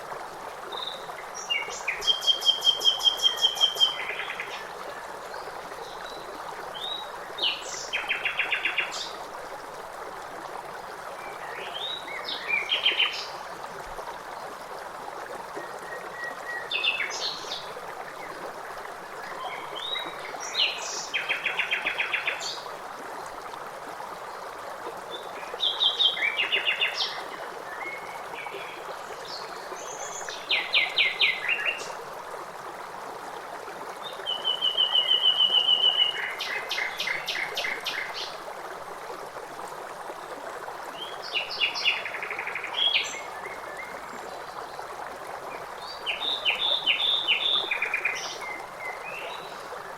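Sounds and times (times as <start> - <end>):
flowing water rushing: 0.0 - 49.9.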